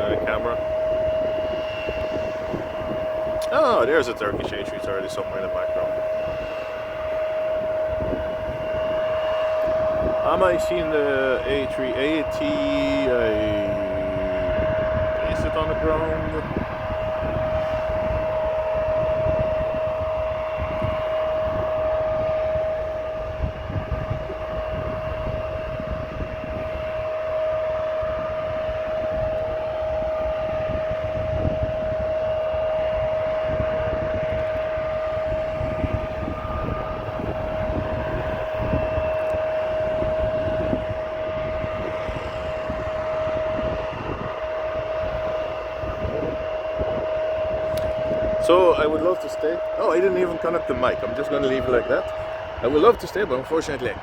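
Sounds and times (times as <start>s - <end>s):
distant jet engines whining: 0.0s - 54.0s
wind buffeting microphone: 0.0s - 54.0s.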